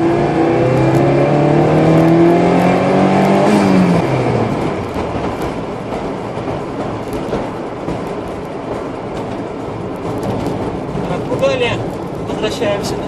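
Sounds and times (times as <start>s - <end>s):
car engine accelerating: 0.0s - 13.0s
road and tyre noise: 0.0s - 13.0s.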